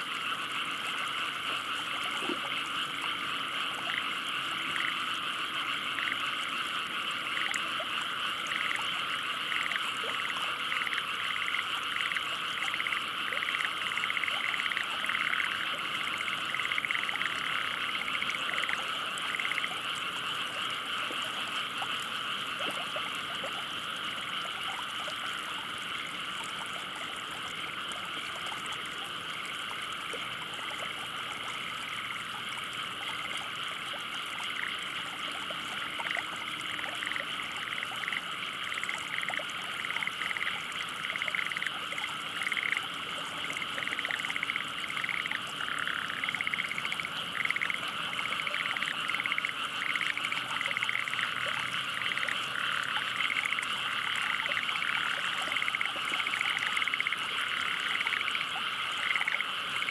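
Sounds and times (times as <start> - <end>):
frog chorus trilling: 0.0 - 59.9
rapid pulsed frog calls: 0.0 - 59.9.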